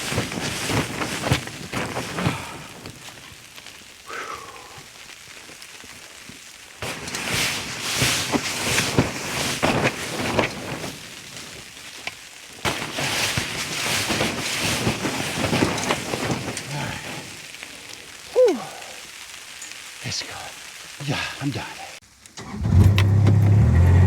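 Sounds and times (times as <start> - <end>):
broom sweeping snow: 0.0 - 21.9.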